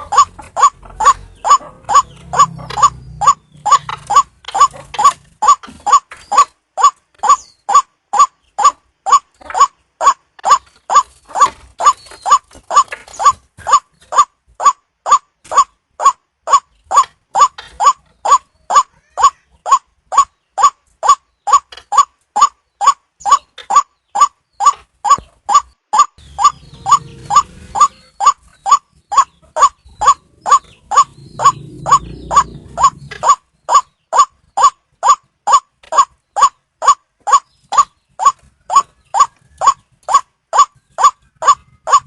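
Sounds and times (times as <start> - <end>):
waterhen calling: 0.0 - 42.0.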